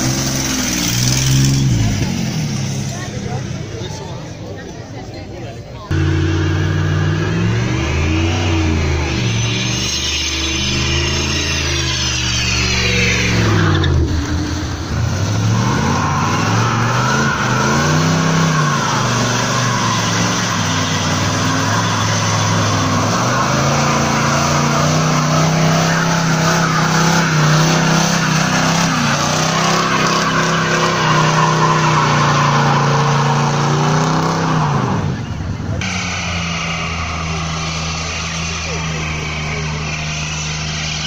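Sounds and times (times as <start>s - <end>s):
van engine revving: 0.0s - 3.4s, 5.9s - 41.0s
tyres squealing on asphalt: 0.0s - 41.0s.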